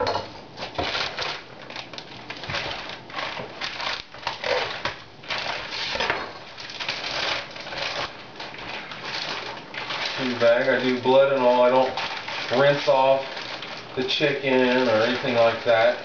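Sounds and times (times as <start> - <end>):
plastic bag crinkling: 0.5 - 16.0.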